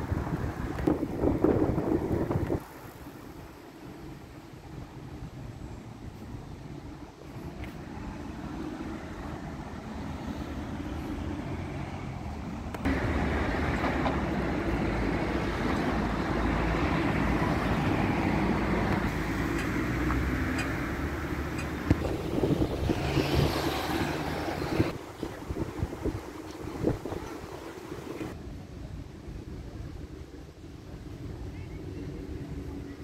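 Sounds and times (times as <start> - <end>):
cars passing on city road: 0.0 - 33.0.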